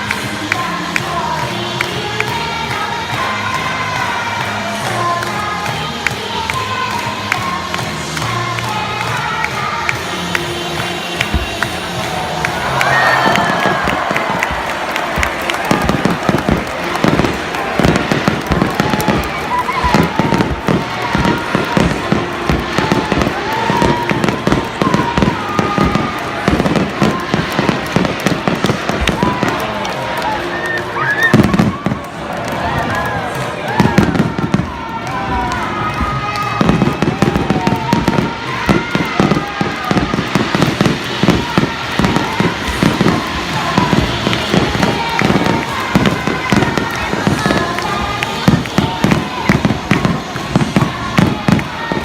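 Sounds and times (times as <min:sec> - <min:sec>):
fireworks banging and crackling: 0:00.0 - 0:52.0.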